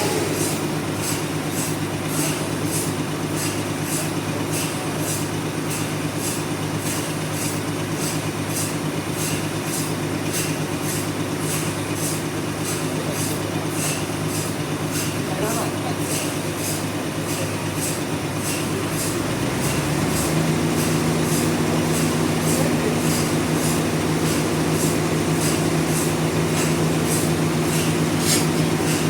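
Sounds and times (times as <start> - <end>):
sawmill machinery cutting log: 0.0 - 29.0.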